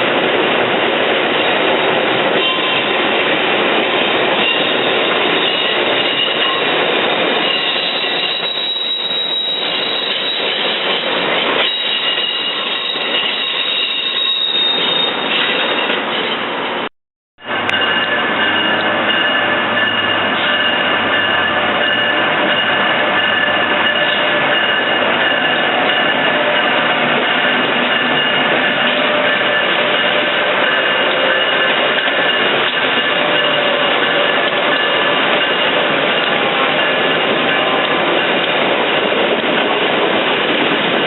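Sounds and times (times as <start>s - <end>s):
train cars rumbling: 0.0s - 41.0s
train wheels squealing on rail: 2.4s - 3.0s, 4.2s - 16.7s, 17.6s - 38.4s.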